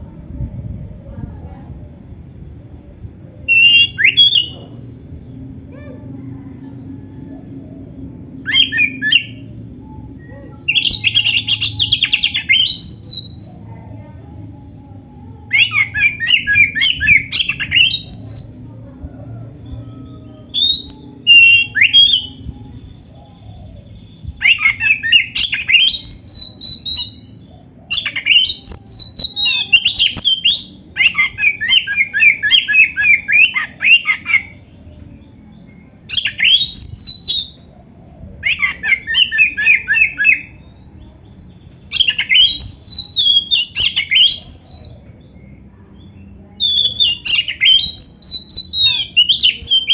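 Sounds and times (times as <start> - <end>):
songbird chattering song: 7.8 - 18.8, 19.7 - 49.9.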